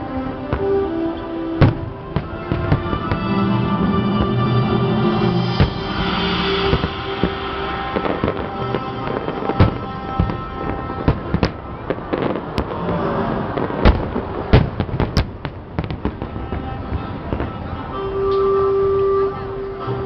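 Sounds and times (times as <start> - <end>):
background music: 0.0 - 20.0
fireworks bangs and cracks: 1.6 - 17.9.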